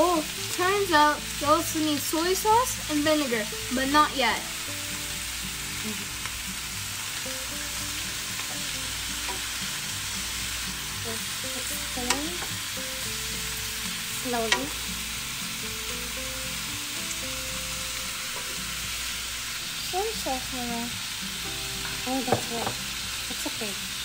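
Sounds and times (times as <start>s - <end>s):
chicken sizzling in a pan: 0.0s - 24.0s.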